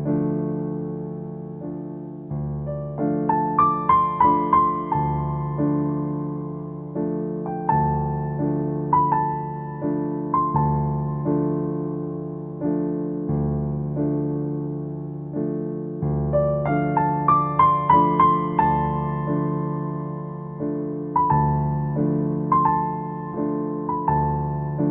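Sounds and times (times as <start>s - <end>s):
slow piano music: 0.0s - 24.9s.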